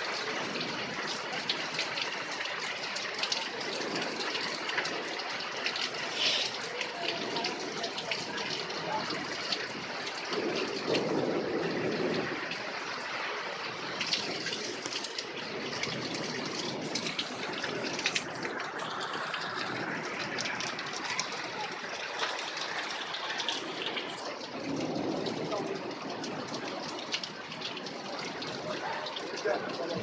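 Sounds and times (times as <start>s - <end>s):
rain downpour hiss: 0.0s - 30.0s
sharp drips and splashes: 0.0s - 30.0s.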